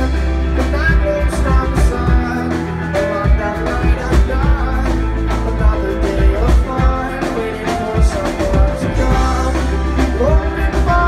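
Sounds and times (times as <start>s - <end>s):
rock band playing live: 0.0s - 11.0s.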